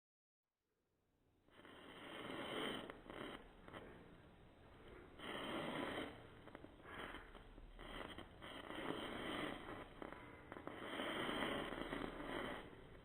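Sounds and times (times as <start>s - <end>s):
firework fizzing and crackling: 1.5s - 13.0s.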